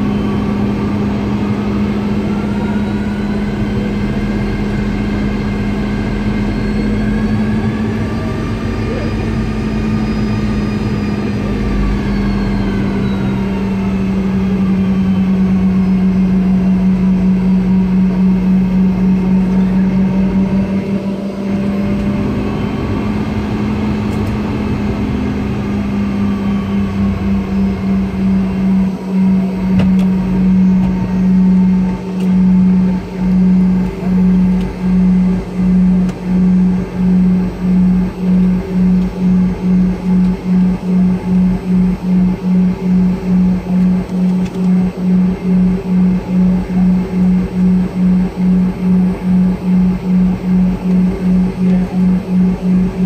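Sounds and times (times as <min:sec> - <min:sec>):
faint engine whines: 0:00.0 - 0:53.0
jet engine drone in cabin: 0:00.0 - 0:53.0.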